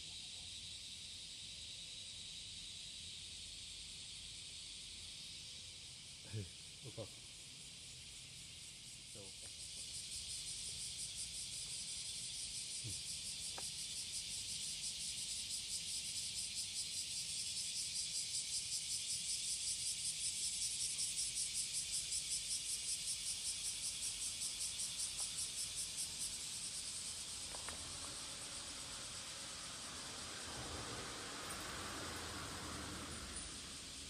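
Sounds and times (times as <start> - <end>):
cicada buzzing: 0.0 - 34.0.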